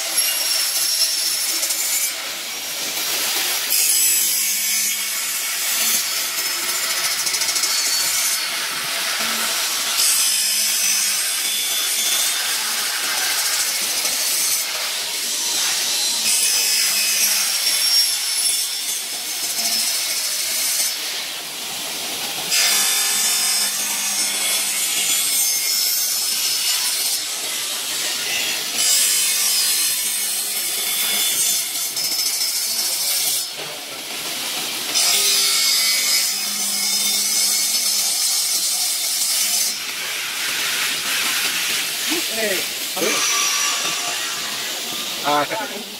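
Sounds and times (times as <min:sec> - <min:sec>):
high-pitched cutting hiss: 0:00.0 - 0:45.9
saw blade cutting metal: 0:00.0 - 0:45.9.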